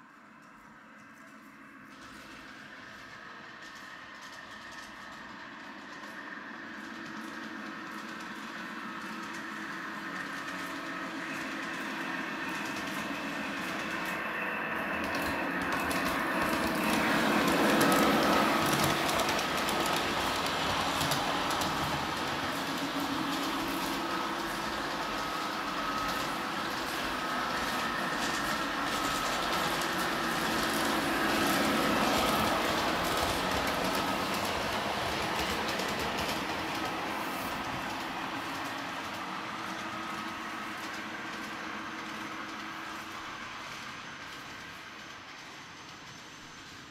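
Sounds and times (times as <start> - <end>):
model train running on track: 0.0 - 46.9.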